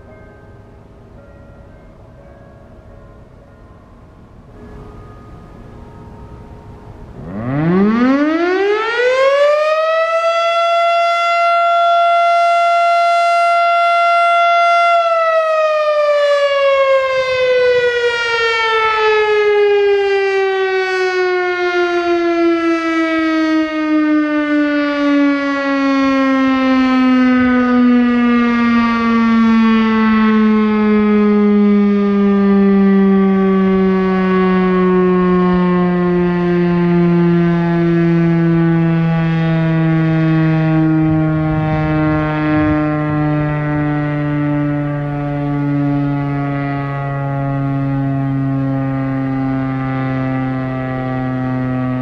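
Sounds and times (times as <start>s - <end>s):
warning siren winding: 6.4s - 52.0s.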